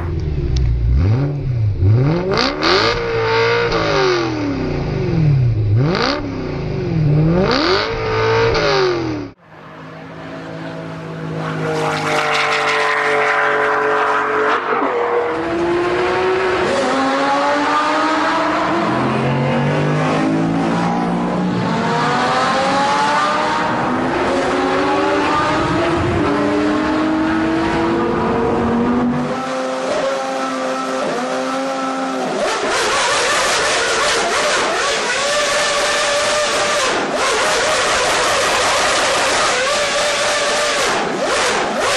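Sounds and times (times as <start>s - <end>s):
car engine revving: 0.0s - 41.9s
car accelerating through gears: 0.9s - 9.4s, 10.5s - 41.9s.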